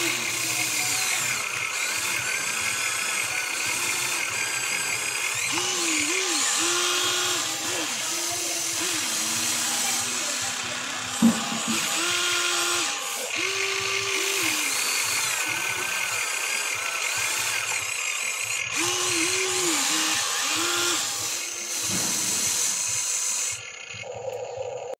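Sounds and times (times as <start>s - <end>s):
electric motors and gears whining: 0.0s - 24.9s.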